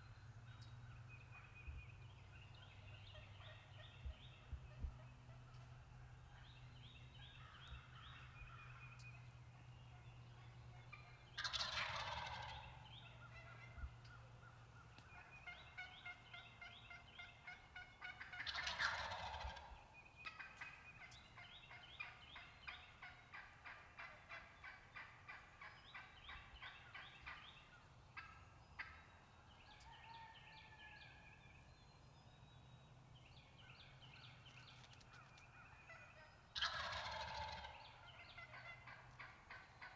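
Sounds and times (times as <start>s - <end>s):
songbirds chorus: 0.0s - 39.9s
turkeys gobbling: 2.4s - 6.6s, 7.2s - 31.6s, 33.4s - 39.9s.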